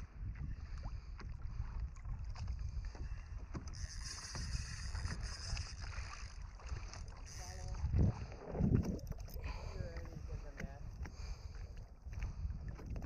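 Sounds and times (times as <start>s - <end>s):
water lapping around kayak: 0.0s - 13.0s
wind buffeting microphone: 0.0s - 13.0s.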